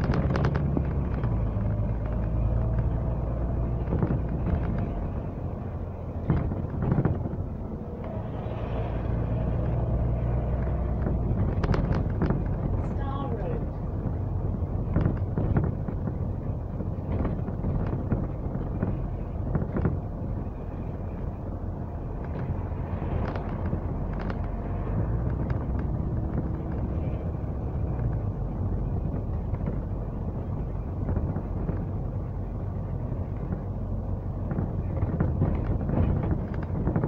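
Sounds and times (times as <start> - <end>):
bodywork rattles and knocks: 0.0 - 37.0
bus engine and road rumble: 0.0 - 37.0.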